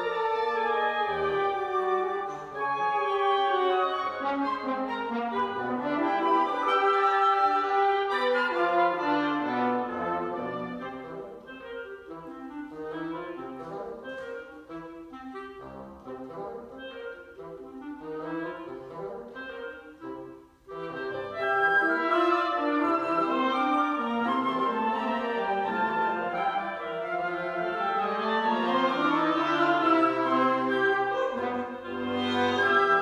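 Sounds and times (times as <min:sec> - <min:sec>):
wind quintet playing: 0:00.0 - 0:33.0.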